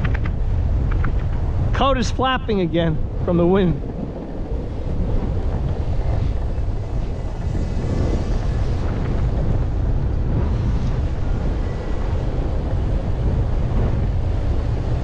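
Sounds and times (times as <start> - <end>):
jacket flapping in wind: 0.0 - 15.0
wheels rolling over asphalt: 0.0 - 15.0
wind buffeting microphone: 0.0 - 15.0.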